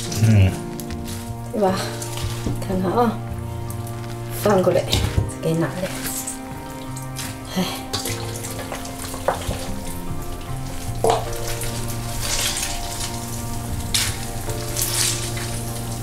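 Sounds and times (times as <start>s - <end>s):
background music: 0.0s - 16.0s
hands squishing herbs into meat: 0.0s - 16.0s.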